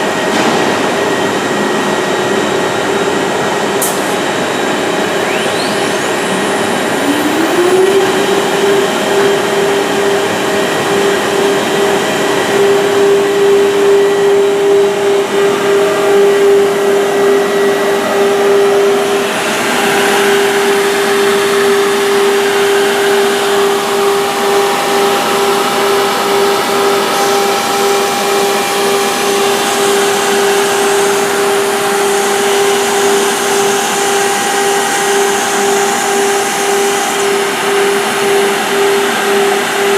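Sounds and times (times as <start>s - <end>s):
machine noise: 0.0s - 39.9s
woodworking machine motor humming: 2.4s - 39.9s.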